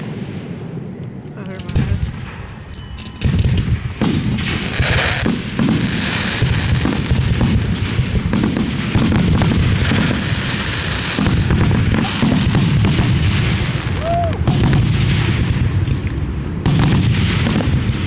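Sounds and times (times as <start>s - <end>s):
fireworks booms and bangs: 0.0s - 18.0s
fireworks crackling: 0.0s - 18.0s.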